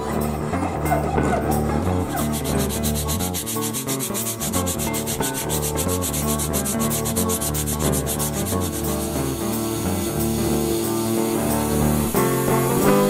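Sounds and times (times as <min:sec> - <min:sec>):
background music: 0:00.0 - 0:13.0
sandpaper rubbing on wood: 0:01.5 - 0:13.0.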